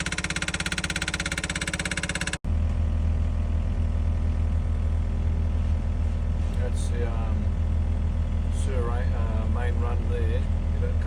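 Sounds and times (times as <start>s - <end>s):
fast mechanical pulsing: 0.0s - 11.0s
low engine drone: 0.0s - 11.0s.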